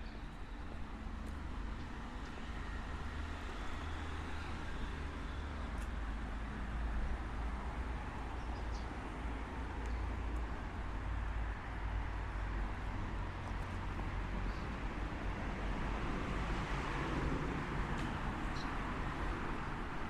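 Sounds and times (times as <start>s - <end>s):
street noise: 0.0s - 20.0s
traffic rumble: 0.0s - 20.0s.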